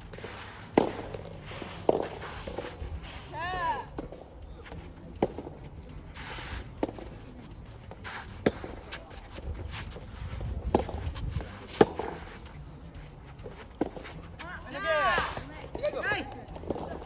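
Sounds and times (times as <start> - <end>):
rackets hitting soft tennis ball: 0.0 - 17.0.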